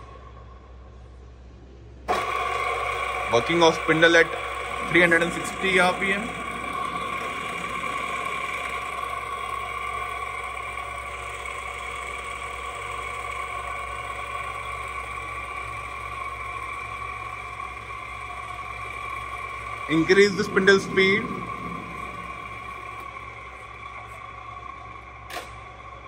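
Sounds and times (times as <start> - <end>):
drill machine hum with high tone: 2.1 - 26.0.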